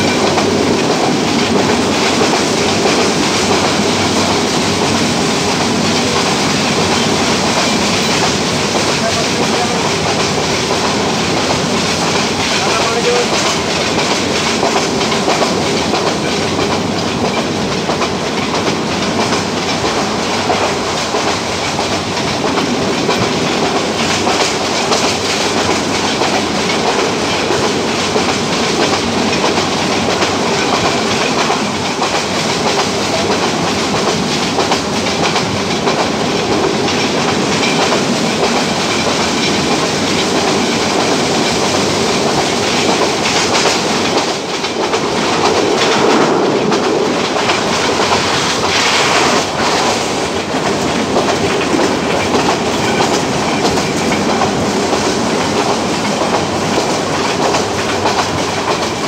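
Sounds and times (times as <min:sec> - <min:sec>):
train clicks: 0:00.0 - 0:59.0
train wheels rumbling on rails: 0:00.0 - 0:59.0.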